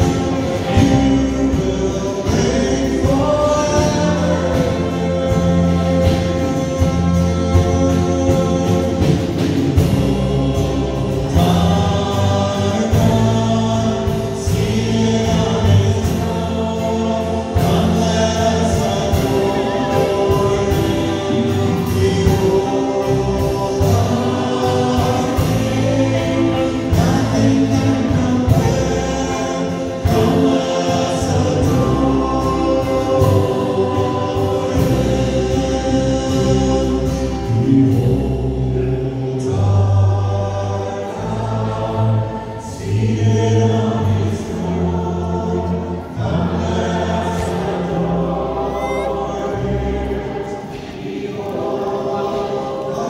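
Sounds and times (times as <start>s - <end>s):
bass: 0.0s - 50.8s
congregation singing: 0.0s - 53.0s
strummed acoustic guitars: 0.0s - 53.0s.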